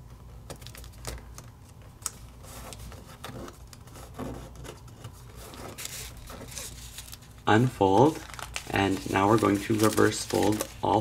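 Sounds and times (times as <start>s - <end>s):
paper rustling and creasing: 0.5s - 11.0s.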